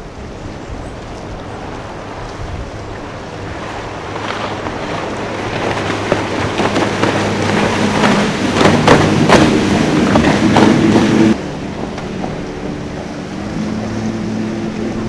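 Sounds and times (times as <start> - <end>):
hull slapping on waves: 0.0 - 15.0
motorboat engine drone: 0.0 - 15.0.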